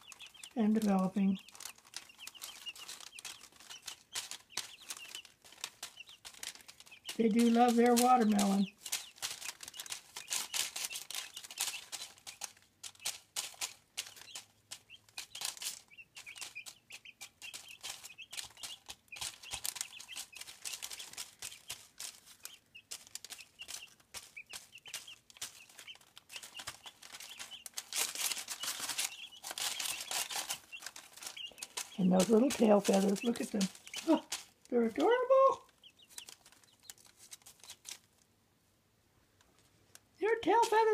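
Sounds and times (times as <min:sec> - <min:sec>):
chicks peeping: 0:00.0 - 0:38.2, 0:39.4 - 0:40.9
paper rustling: 0:00.0 - 0:38.2
chicks pecking: 0:00.0 - 0:40.9.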